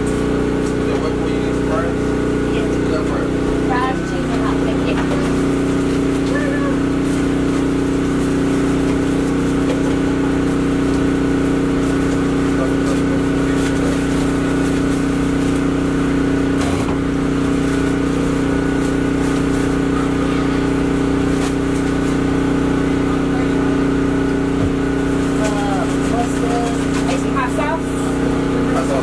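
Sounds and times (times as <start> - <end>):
engine humming steadily: 0.0 - 29.0.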